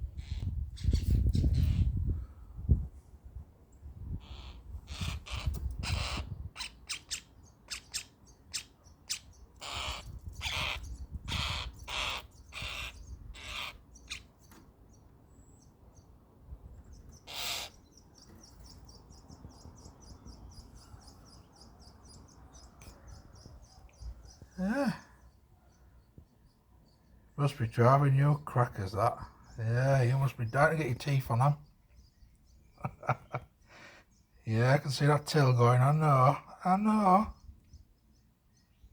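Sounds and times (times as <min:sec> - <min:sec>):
starlings calling: 0:00.0 - 0:02.1, 0:04.1 - 0:38.9
high-pitched bird chatter: 0:00.0 - 0:02.2, 0:04.0 - 0:38.9.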